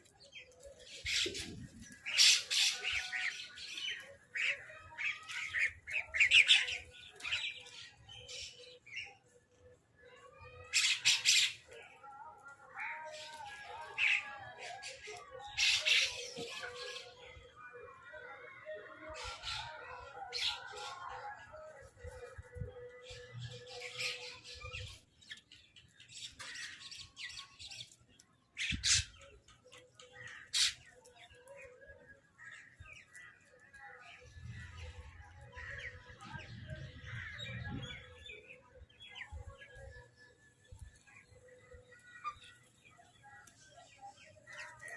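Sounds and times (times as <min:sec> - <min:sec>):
birds squawking and chattering: 0:00.0 - 0:44.9.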